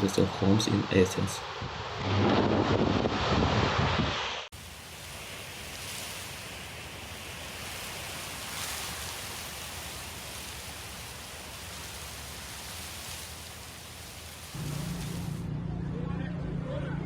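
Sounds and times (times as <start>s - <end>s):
storm water rushing hiss: 0.0s - 15.5s.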